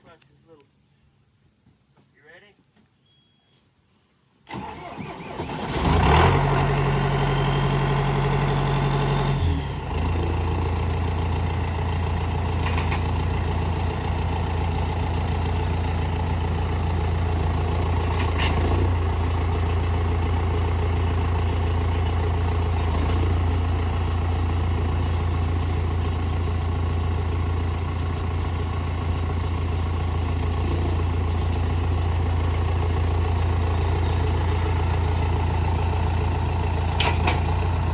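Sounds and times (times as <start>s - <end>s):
tractor diesel engine idling: 4.5s - 37.9s.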